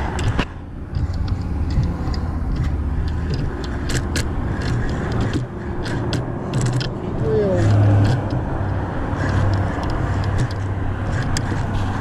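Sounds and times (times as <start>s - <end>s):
fishing reel clicking: 0.0s - 12.0s
road traffic rumble: 0.0s - 12.0s.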